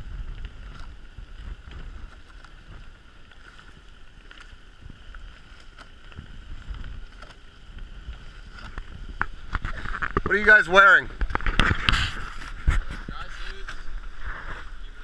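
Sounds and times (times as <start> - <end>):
water rushing past hulls: 0.0 - 15.0
wind rumbling on microphone: 0.0 - 15.0.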